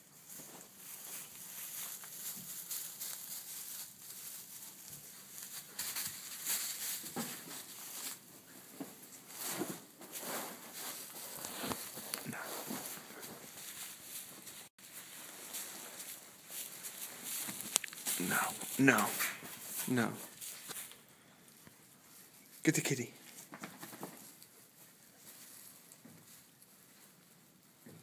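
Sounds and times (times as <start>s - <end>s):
straw rustling and crackling: 0.0s - 22.6s, 23.2s - 28.0s.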